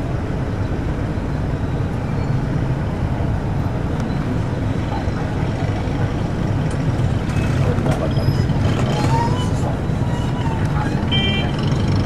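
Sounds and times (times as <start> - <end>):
bus engine drone and road noise: 0.0 - 12.0.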